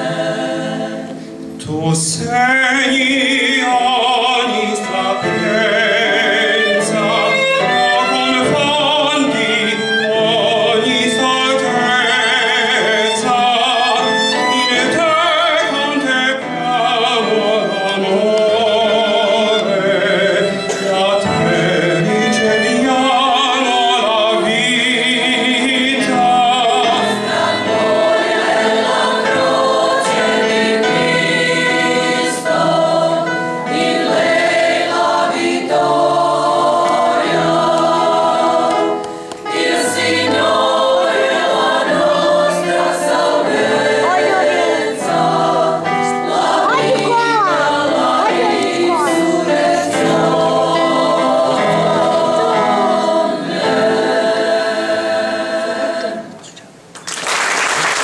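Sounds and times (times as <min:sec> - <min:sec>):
mixed choir singing a hymn: 0:00.0 - 0:56.6
piano accompaniment: 0:00.0 - 0:56.9.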